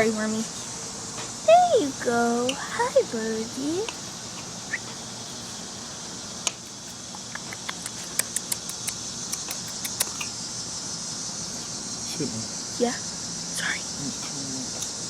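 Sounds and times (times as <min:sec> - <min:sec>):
high-pitched insect hum: 0:00.0 - 0:15.0.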